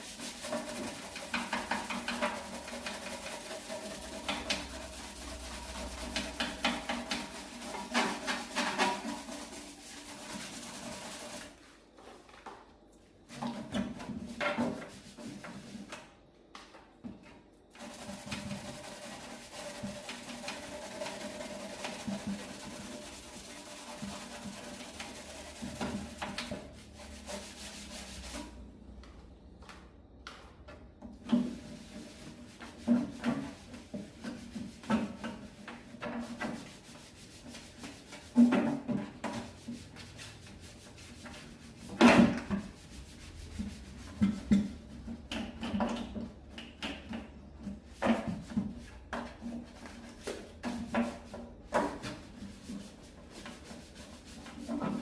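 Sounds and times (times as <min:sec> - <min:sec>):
rubbing and scraping: 0:00.0 - 0:12.4, 0:13.3 - 0:16.0, 0:17.7 - 0:28.7, 0:31.2 - 0:55.0.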